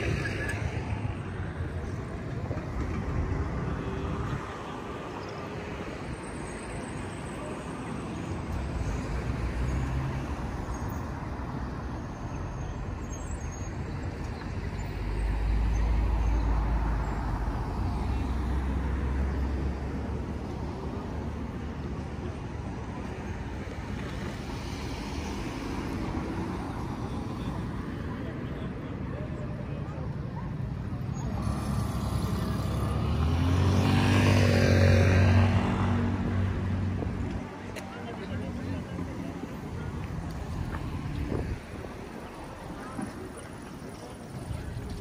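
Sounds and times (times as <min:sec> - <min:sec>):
city street traffic: 0:00.0 - 0:45.0.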